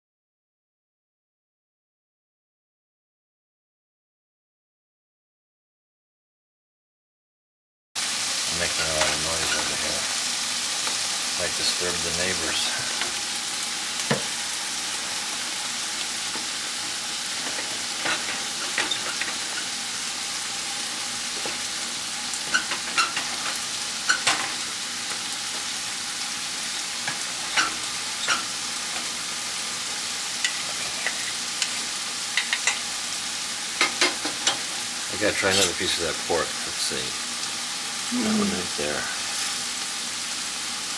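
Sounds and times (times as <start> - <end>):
meat sizzling in a pan: 8.0 - 40.9.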